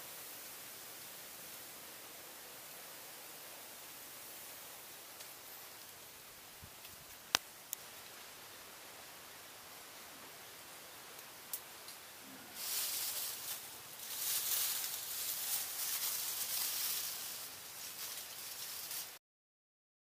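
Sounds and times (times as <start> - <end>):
leafy branches rustling: 0.0 - 19.2.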